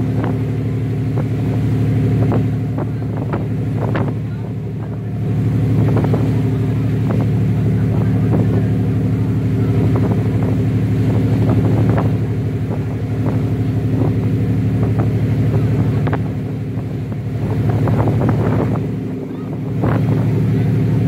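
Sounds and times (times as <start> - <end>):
boat engine droning: 0.0 - 21.0
rushing water of wake: 0.0 - 21.0.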